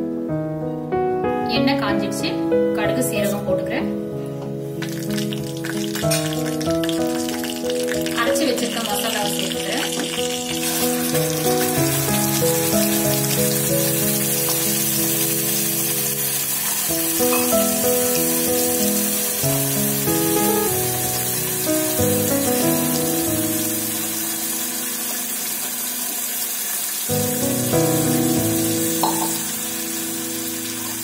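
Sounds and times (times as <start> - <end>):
background music of held notes: 0.0 - 25.5
paste sizzling in hot oil: 4.6 - 31.0.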